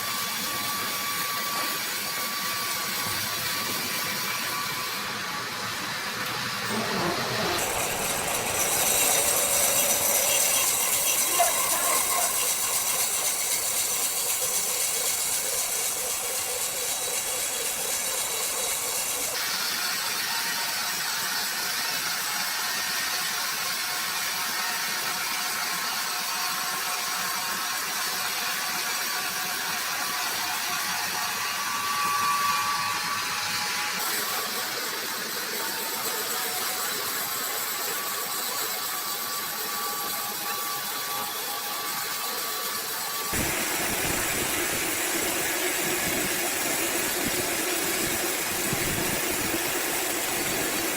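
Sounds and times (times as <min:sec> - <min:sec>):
saw cutting timber with hiss: 0:00.0 - 0:50.9.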